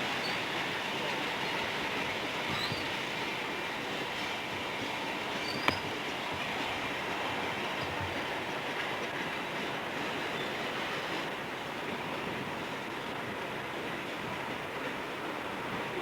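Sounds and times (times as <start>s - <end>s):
railroad cars rolling on track: 0.0s - 16.0s.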